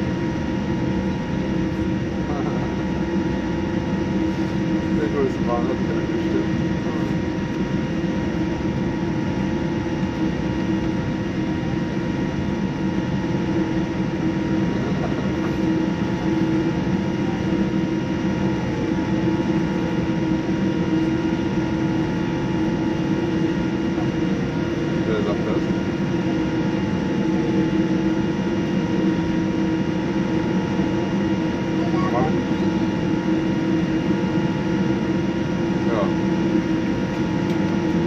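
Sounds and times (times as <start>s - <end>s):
constant low hum: 0.0s - 38.0s
aircraft cabin rush: 0.1s - 38.0s.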